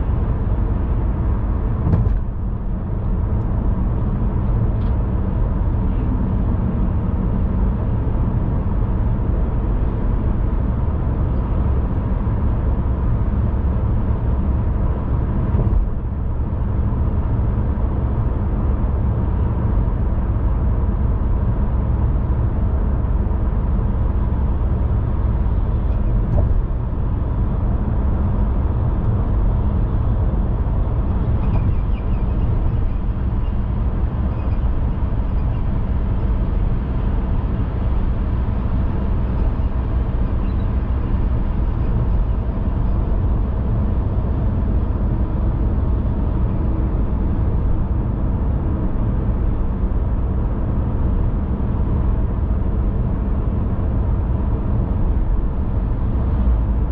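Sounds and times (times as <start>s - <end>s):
car driving low rumble: 0.0s - 56.9s.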